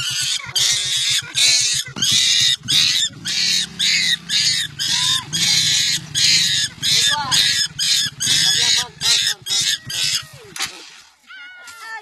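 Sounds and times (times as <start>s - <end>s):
motorcycle engine idling: 0.0s - 10.6s
young primate shrieking: 0.0s - 10.6s.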